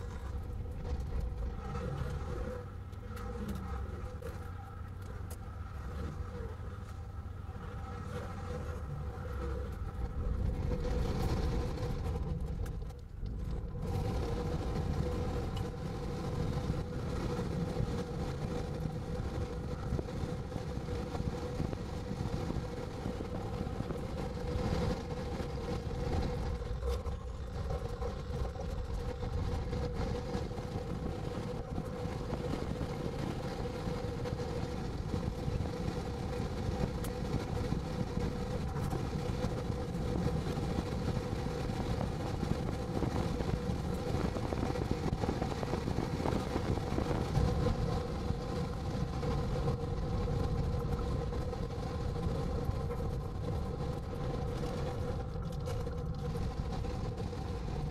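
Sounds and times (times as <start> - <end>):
car engine and road rumble: 0.0 - 57.9
constant hum: 0.0 - 57.9.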